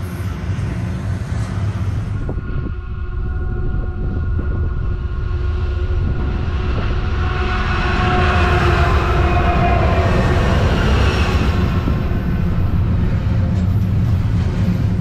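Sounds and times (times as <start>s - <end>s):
diesel locomotive engines: 0.0s - 15.0s
freight cars rumbling: 0.0s - 15.0s.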